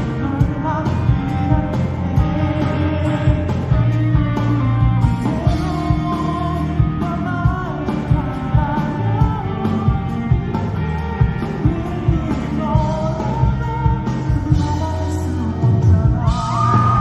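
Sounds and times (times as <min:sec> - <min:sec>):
guitars: 0:00.0 - 0:17.0
person singing: 0:00.0 - 0:17.0
steady drum beat: 0:00.0 - 0:17.0.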